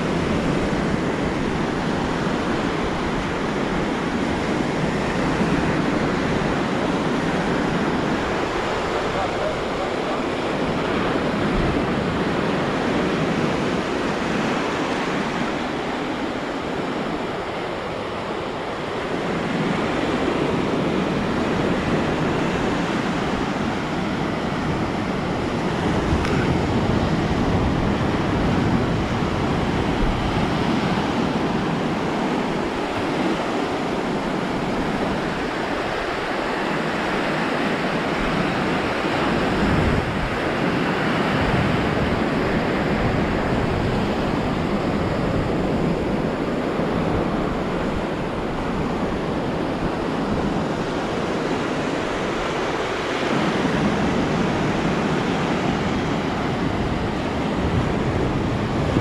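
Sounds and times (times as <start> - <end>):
ocean waves breaking: 0.0 - 59.0
wind buffeting microphone: 0.0 - 59.0.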